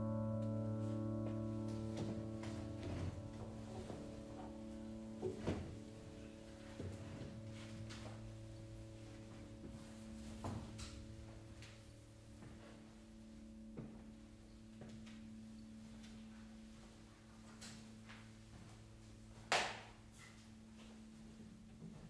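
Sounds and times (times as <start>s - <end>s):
drone of low tones: 0.0s - 18.5s.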